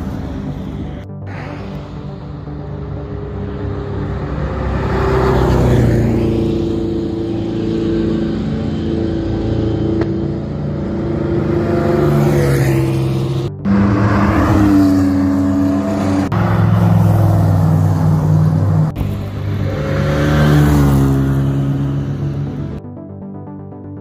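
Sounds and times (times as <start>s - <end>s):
car engine accelerating: 0.0s - 22.8s.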